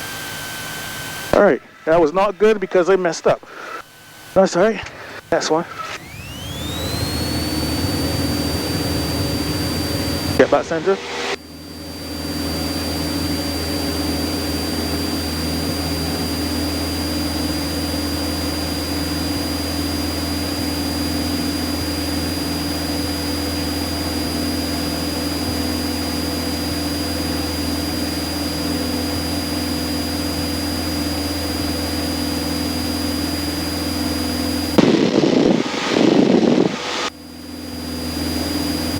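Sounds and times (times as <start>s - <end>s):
aircraft engine and propeller droning: 0.0s - 38.9s
thin high whine: 0.0s - 38.9s.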